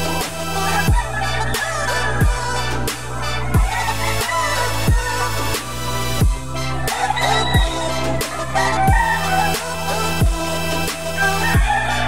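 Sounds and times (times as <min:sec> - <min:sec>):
synth melody: 0:00.0 - 0:11.5
steady bass notes: 0:00.0 - 0:12.0.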